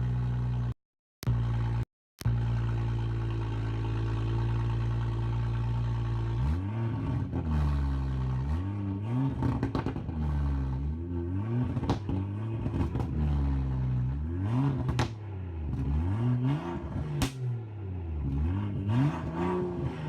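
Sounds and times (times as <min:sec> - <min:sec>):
car exhaust idling and revving: 0:00.0 - 0:00.7, 0:01.3 - 0:20.0.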